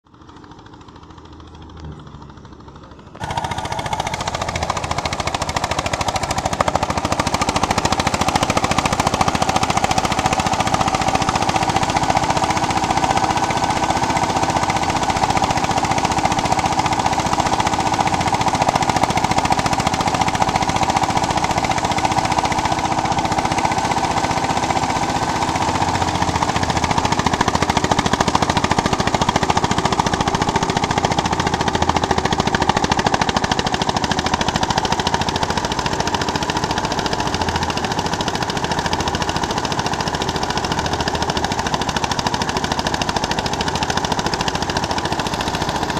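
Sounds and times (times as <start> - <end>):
diesel engine chugging: 0.0 - 45.9.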